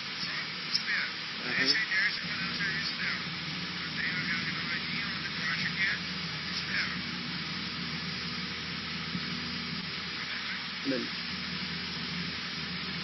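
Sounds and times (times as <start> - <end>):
small plane engine droning: 0.0 - 13.0.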